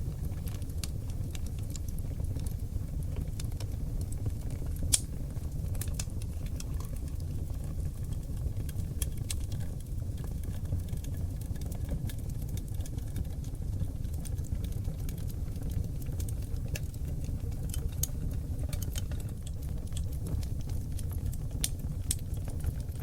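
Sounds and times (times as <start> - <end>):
fire crackles: 0.0 - 23.0
fire flames rumbling: 0.0 - 23.0.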